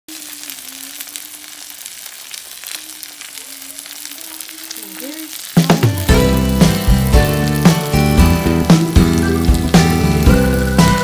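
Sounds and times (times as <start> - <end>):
food sizzling on hot plate: 0.1 - 11.0.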